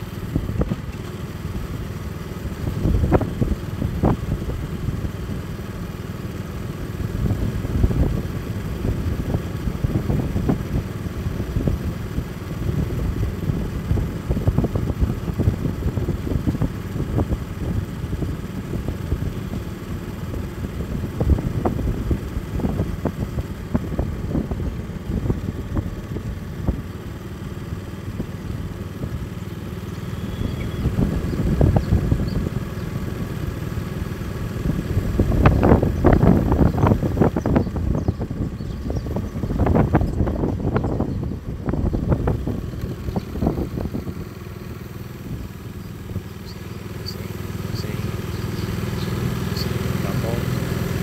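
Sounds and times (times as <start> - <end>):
motorbike running: 0.0 - 51.0
wind buffeting microphone: 2.5 - 5.5, 6.9 - 27.4, 28.0 - 49.5.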